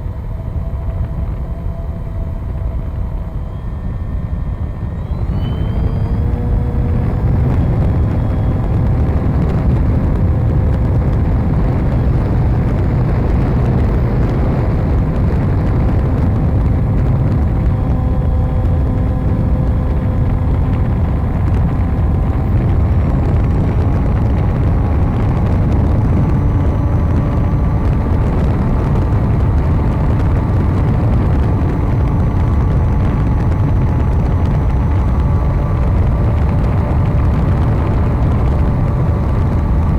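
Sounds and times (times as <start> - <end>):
model plane motor whining: 0.0 - 39.9
wind rushing over camera: 0.0 - 39.9.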